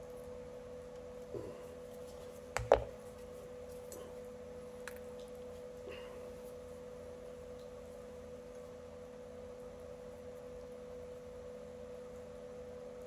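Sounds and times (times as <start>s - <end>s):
steady humming tone: 0.0s - 13.0s.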